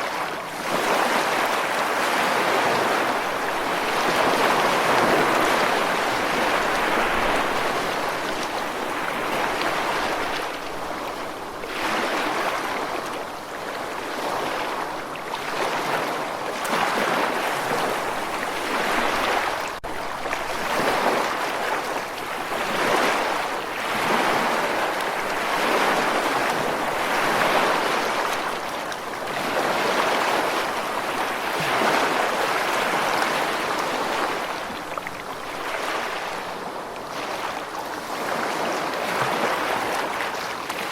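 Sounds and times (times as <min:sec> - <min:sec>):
ocean surf washing in and out: 0:00.0 - 0:40.9.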